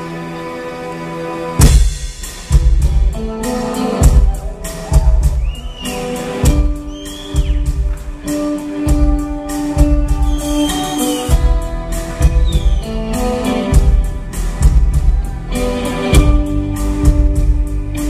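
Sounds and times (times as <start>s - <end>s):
drum kit bass drum and cymbals: 1.6s - 18.0s.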